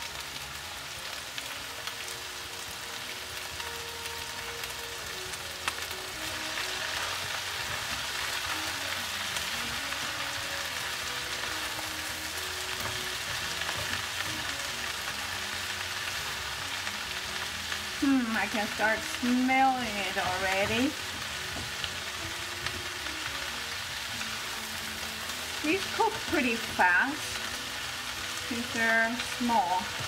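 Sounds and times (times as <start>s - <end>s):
chives sizzling in hot oil: 0.0s - 30.0s
spatula stirring in pan: 5.6s - 30.0s.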